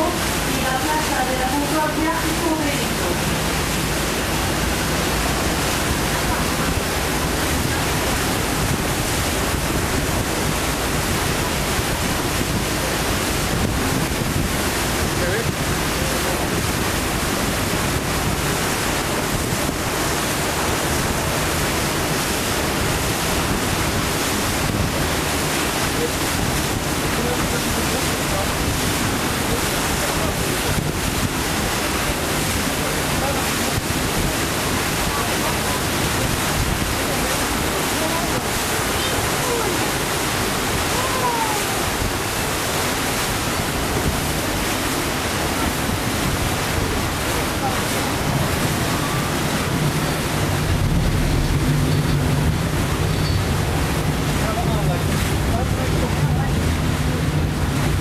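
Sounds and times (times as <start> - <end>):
water rushing past boat: 0.0 - 58.0
wind blowing across microphone: 0.0 - 58.0.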